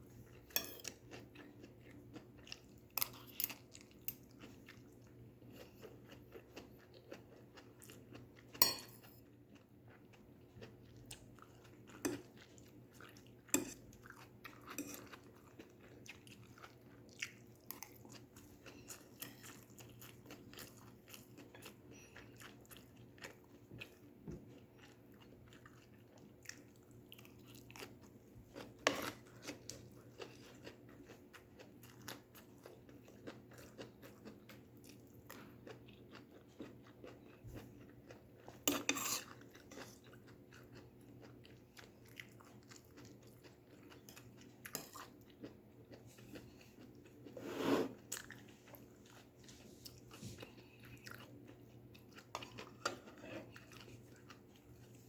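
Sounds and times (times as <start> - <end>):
chewing crunchy vegetables: 0.0 - 55.0.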